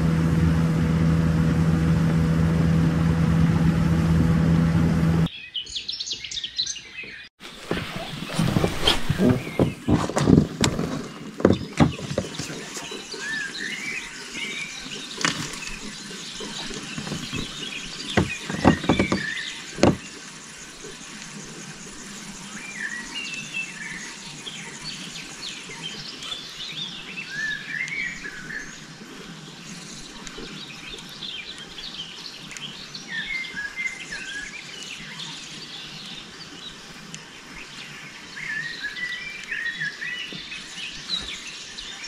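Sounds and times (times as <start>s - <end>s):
songbirds singing: 5.2s - 42.0s.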